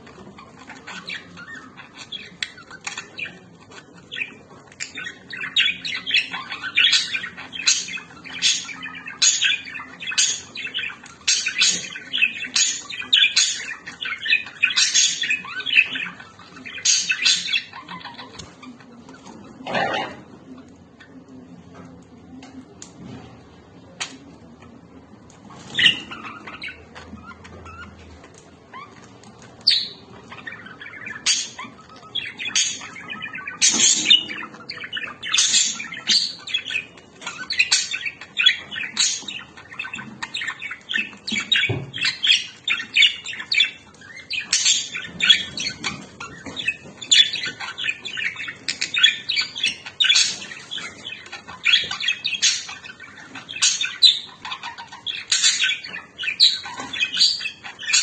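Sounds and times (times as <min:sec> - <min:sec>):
lovebirds chirping and squawking: 0:00.0 - 0:58.0.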